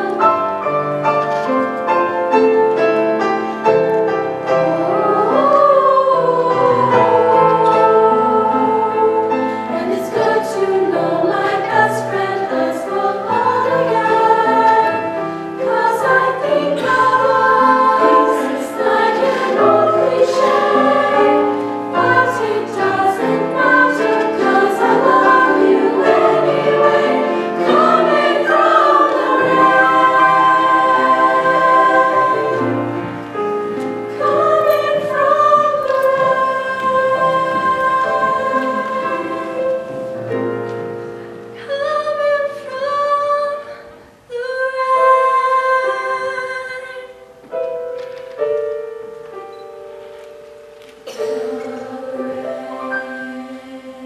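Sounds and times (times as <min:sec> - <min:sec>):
women's choir singing in harmony: 0:00.0 - 0:54.0.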